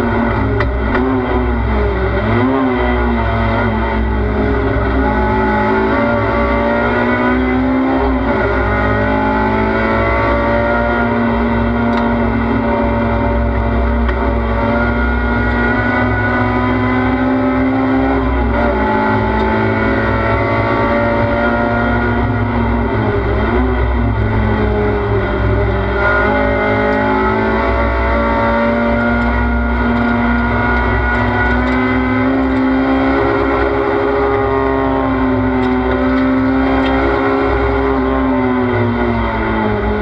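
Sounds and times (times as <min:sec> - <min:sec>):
race car engine: 0:00.0 - 0:40.0.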